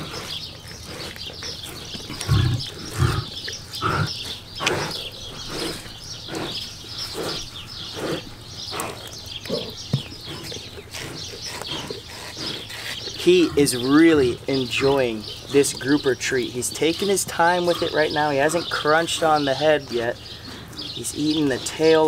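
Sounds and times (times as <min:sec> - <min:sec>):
lion licking and chewing: 0:00.0 - 0:22.0.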